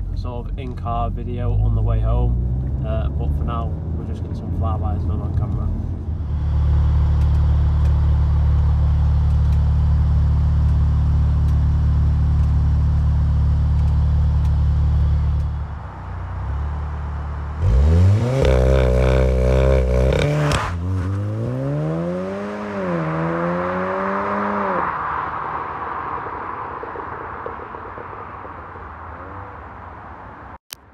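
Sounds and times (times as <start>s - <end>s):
car engine idling and accelerating: 0.0s - 30.6s.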